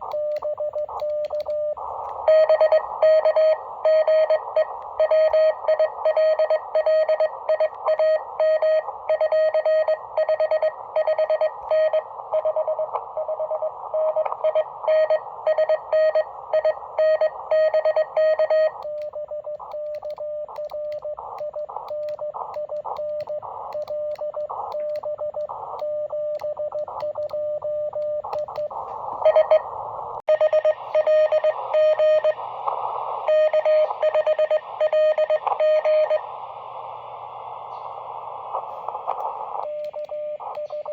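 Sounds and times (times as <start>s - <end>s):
radio receiver hiss: 0.0s - 9.2s, 9.9s - 40.9s
morse code beeps: 0.1s - 29.6s, 30.3s - 32.4s, 33.2s - 36.2s.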